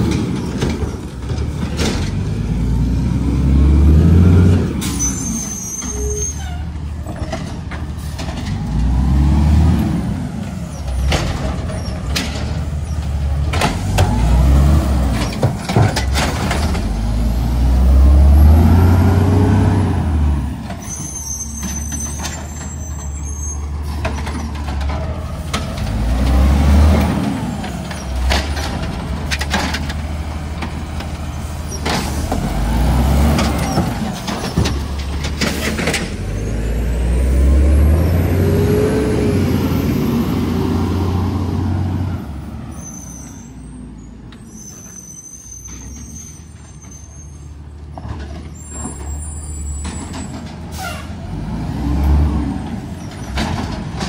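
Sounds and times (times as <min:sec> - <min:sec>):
garbage truck engine revving: 0:00.0 - 0:05.6, 0:07.3 - 0:42.8, 0:48.7 - 0:54.0.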